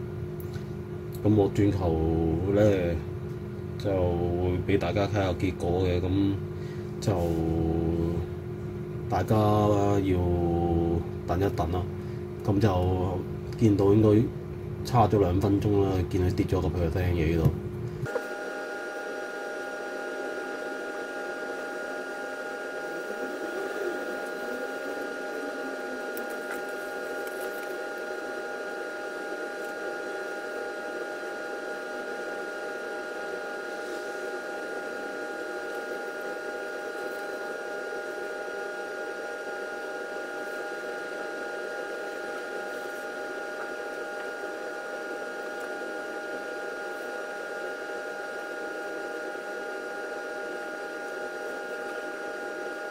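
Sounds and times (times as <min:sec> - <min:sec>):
machinery hum with high tones: 0:00.0 - 0:52.9.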